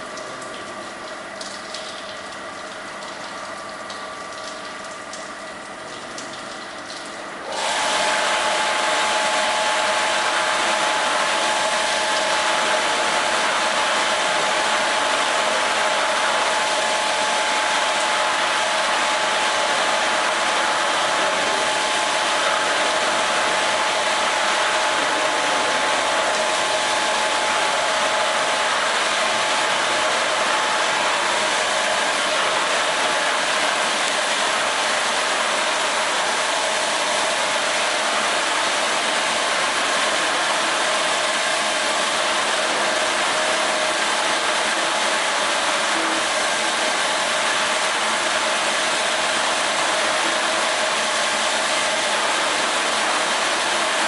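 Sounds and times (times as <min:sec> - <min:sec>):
carpet washing machine whirring: 0:07.3 - 0:54.0.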